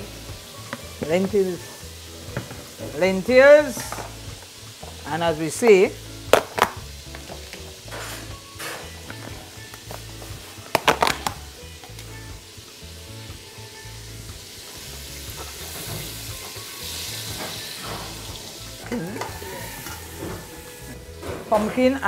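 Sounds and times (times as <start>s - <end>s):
garlic and onion sizzling in oil: 0.0s - 22.0s.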